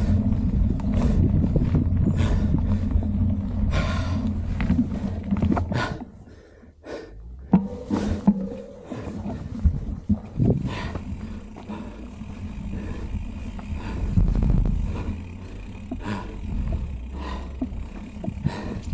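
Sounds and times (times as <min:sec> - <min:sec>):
wind rumble on microphone: 0:00.0 - 0:06.1, 0:07.7 - 0:18.9
bike rattling over bumps: 0:00.0 - 0:06.5, 0:07.2 - 0:18.9
rider breathing hard: 0:00.0 - 0:18.9
tyres on packed dirt: 0:00.0 - 0:18.9.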